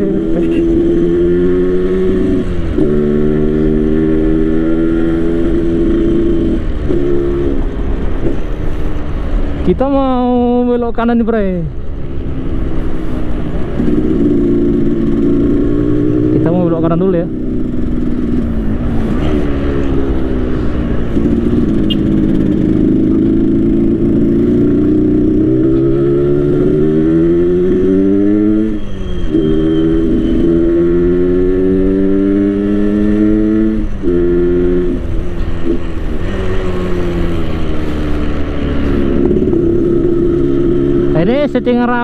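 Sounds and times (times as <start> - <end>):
motorcycle engine rumbling: 0.0 - 42.0.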